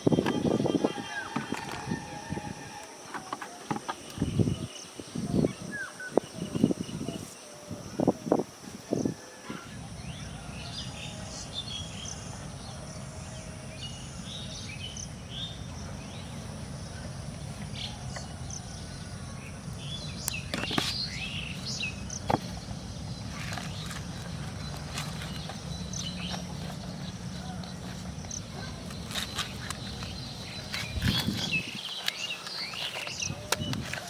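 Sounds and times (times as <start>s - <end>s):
birds chirping: 0.0s - 34.0s
faint high insect drone: 0.0s - 34.0s.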